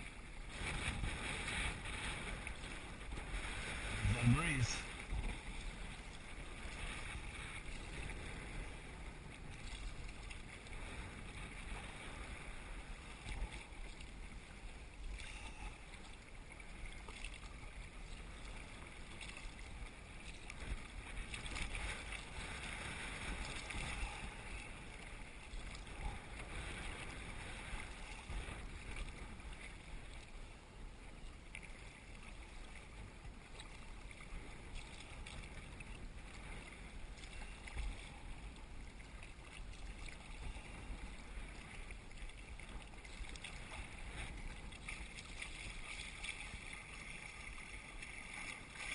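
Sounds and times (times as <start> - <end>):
paddle strokes splashing: 0.0 - 48.9
waves lapping against hull: 0.0 - 48.9
wind rumble on microphone: 0.0 - 48.9.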